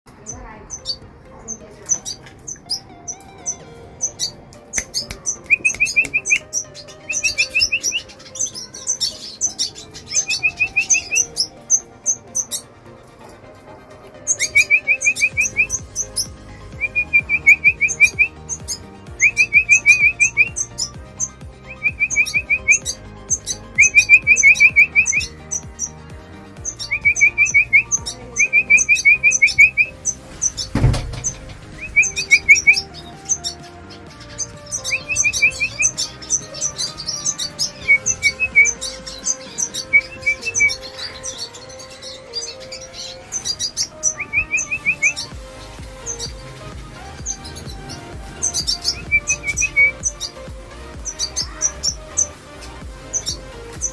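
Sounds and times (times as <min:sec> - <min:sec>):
birds chirping: 0:00.0 - 0:53.9
low repeated bird notes: 0:00.0 - 0:53.9.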